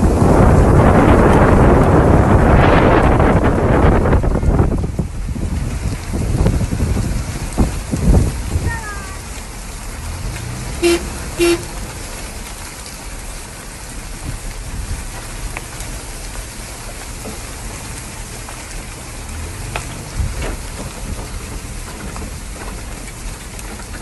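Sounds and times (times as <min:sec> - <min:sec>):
rain-like rushing hiss: 0:00.0 - 0:24.0.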